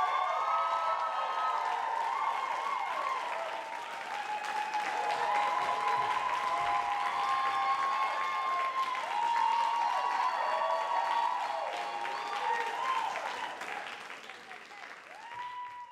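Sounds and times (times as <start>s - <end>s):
audience applauding: 0.0s - 15.9s
crowd cheering: 0.0s - 15.9s.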